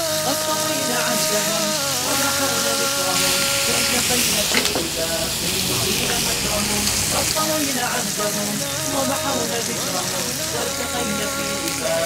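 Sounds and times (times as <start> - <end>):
meat sizzling in a frying pan: 0.1 - 12.0.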